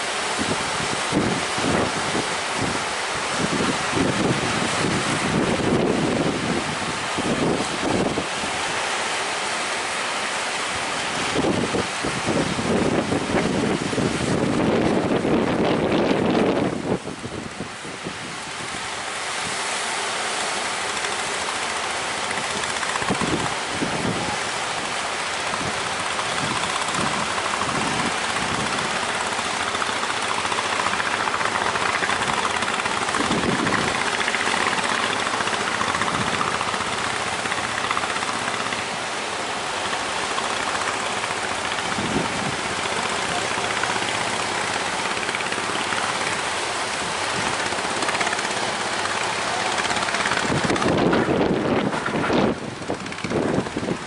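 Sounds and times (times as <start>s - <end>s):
rushing water: 0.0s - 54.0s
speedboat engine running: 0.0s - 54.0s
wind: 0.0s - 54.0s.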